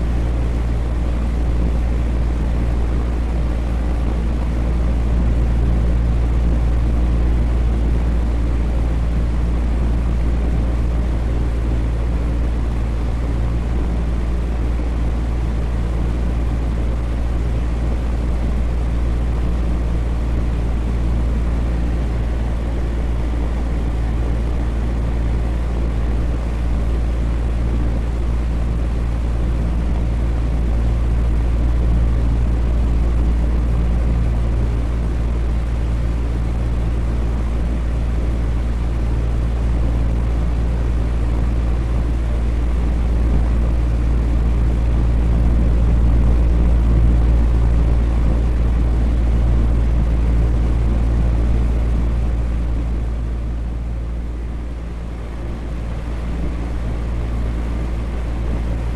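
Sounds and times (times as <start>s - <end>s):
electric fan air rush: 0.0s - 58.9s
low hum: 0.0s - 58.9s.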